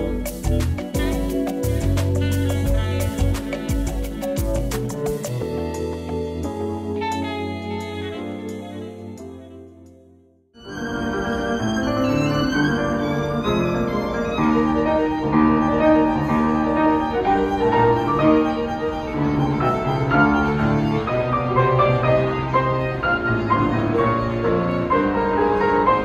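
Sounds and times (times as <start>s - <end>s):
violin and piano duo: 0.0s - 9.9s, 10.6s - 26.0s.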